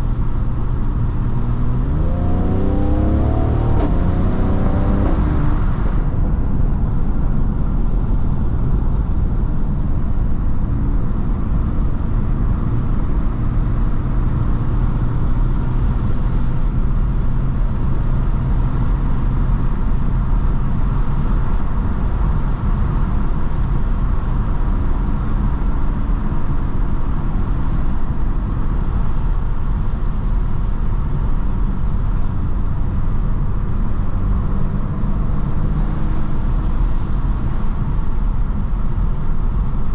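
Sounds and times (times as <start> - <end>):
car engine drone: 0.0 - 39.9
road and tyre noise: 0.0 - 39.9.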